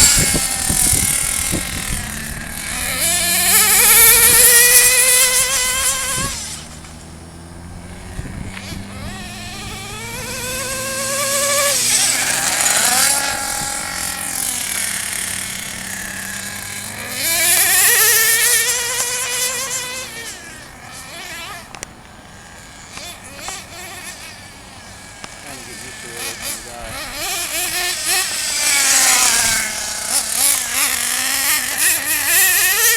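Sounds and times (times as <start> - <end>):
rc car engine revving: 0.0 - 32.9.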